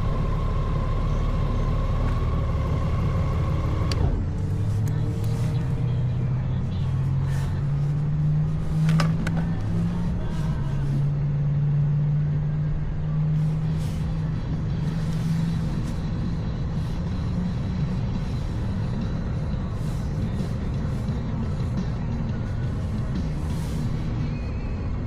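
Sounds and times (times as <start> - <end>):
motorcycle engine running: 0.0 - 25.0
wind and road noise: 0.0 - 25.0
music: 0.2 - 25.0.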